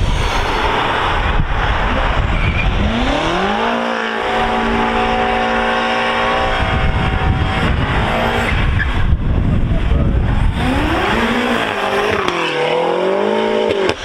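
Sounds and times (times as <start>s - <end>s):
car engine revving: 0.0s - 14.0s
steady rushing noise: 0.0s - 14.0s.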